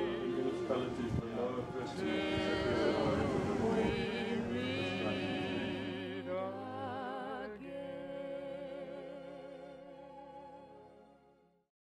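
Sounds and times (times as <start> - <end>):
music with held vibrato notes: 0.0 - 11.5.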